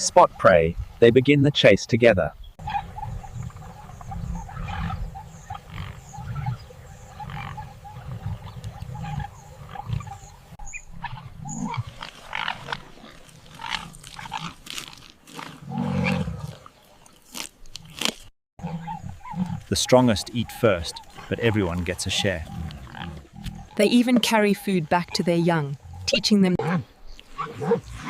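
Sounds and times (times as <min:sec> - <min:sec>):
hyenas growling and calling: 0:02.6 - 0:14.5, 0:15.4 - 0:16.7, 0:18.6 - 0:28.0.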